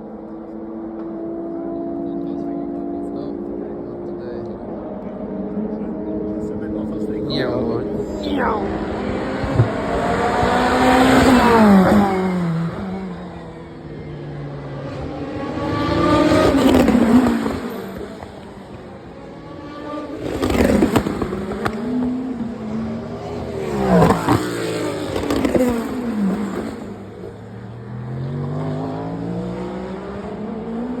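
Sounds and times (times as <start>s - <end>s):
race cars passing: 0.0s - 31.0s.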